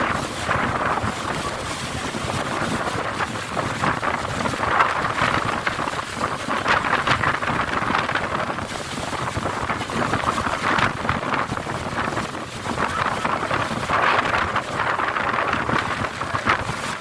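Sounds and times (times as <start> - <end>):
strong gusting wind: 0.0 - 17.0.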